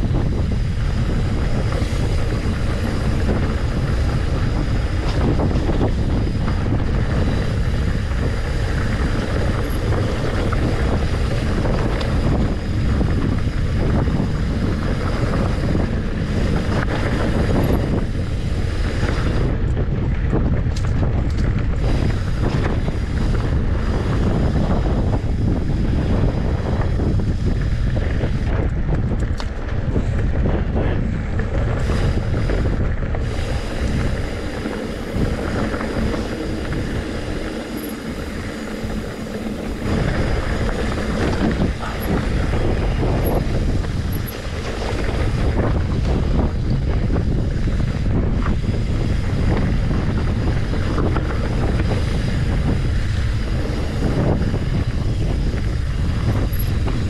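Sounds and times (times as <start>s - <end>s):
bike knocking and rattling: 0.0s - 57.0s
wind buffeting microphone: 0.0s - 57.0s.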